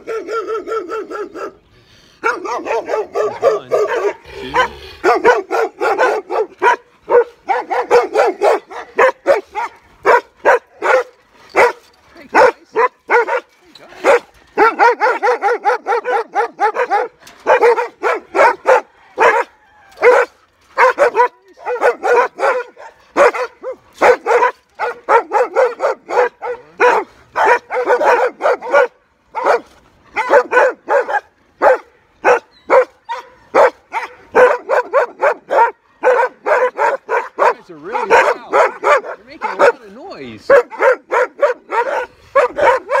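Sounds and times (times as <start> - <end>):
dogs barking excitedly: 0.0 - 43.0.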